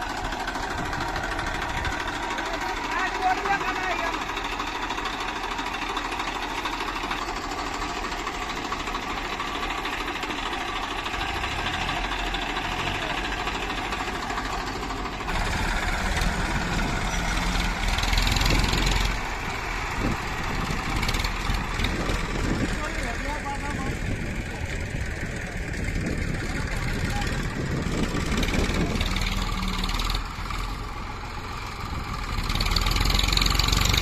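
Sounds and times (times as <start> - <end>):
heavy machinery diesel engine: 0.0 - 34.0.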